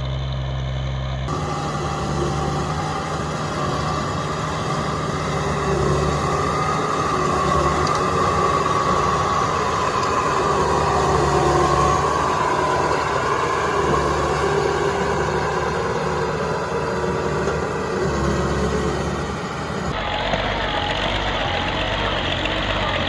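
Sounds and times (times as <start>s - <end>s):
small diesel engine running: 0.0s - 23.0s.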